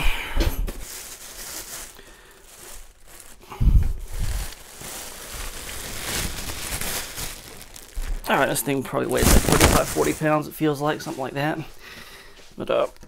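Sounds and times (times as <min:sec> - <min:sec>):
plastic wrapping crinkling: 0:00.7 - 0:13.0.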